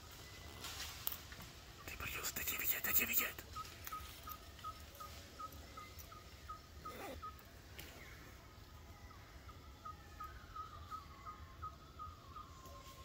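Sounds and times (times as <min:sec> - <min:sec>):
jungle ambience: 0:00.0 - 0:13.0.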